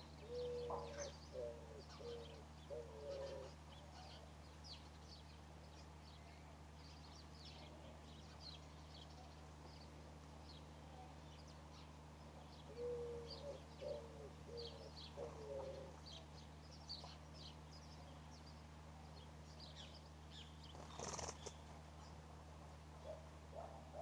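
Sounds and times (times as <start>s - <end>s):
small birds chirping: 0.0s - 22.2s
steady low hum: 0.0s - 24.0s.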